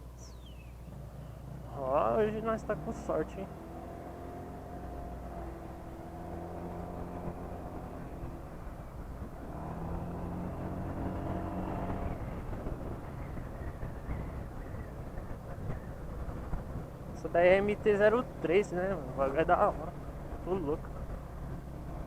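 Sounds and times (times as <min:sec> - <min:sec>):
road and wind noise: 0:00.0 - 0:22.0
scooter engine running: 0:02.8 - 0:22.0.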